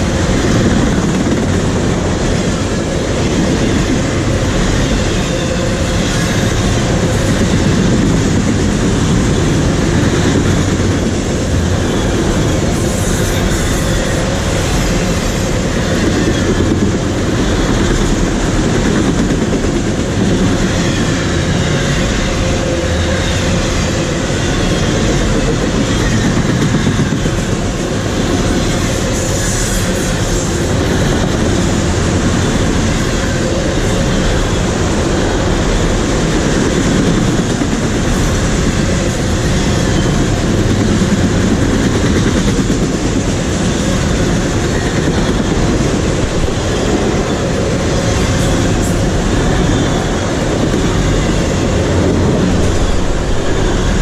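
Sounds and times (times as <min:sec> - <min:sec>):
train cars clattering over rails: 0:00.0 - 0:54.0.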